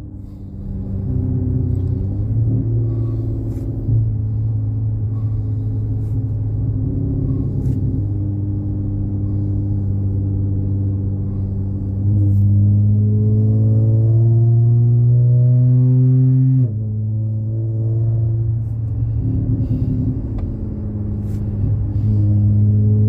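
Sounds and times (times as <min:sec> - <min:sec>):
car engine and exhaust droning: 0:00.0 - 0:23.0.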